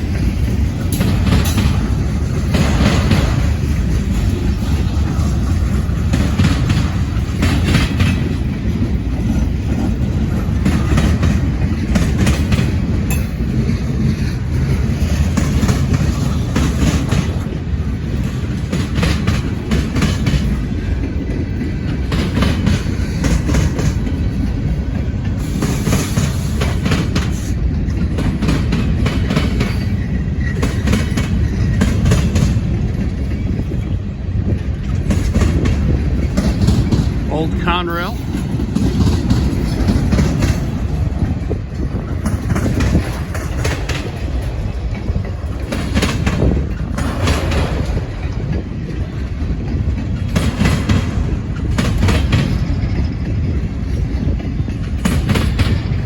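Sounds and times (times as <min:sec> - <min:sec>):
train cars rumbling past: 0:00.0 - 0:56.0
wheels clicking over rail joints: 0:00.0 - 0:56.0.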